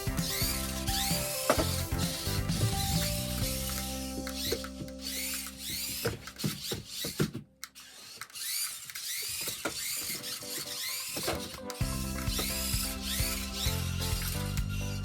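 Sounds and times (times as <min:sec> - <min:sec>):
toy truck motor whirring: 0:00.0 - 0:15.0.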